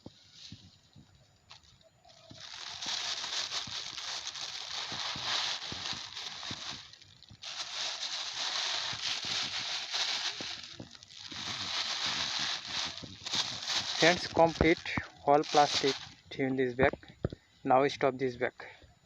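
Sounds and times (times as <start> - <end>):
plastic bags rustling and crinkling: 0.0 - 17.4.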